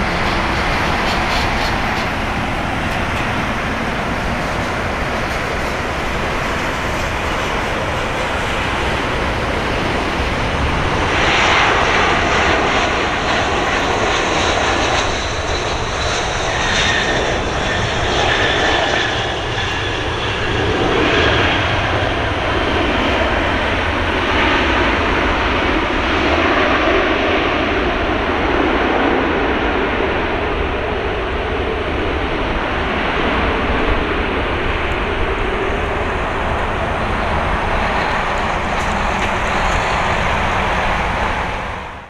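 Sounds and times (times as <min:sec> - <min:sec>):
jet engines roaring with whine: 0:00.0 - 0:42.0.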